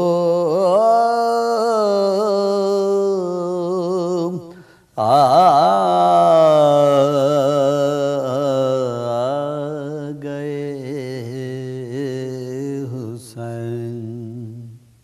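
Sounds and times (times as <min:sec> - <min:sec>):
man chanting devotional song: 0:00.0 - 0:15.0.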